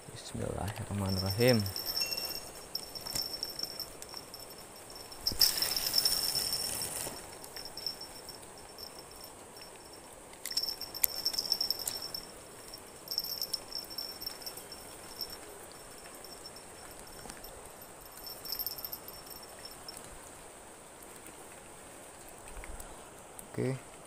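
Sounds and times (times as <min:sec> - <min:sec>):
insects chirping: 0:00.0 - 0:23.7.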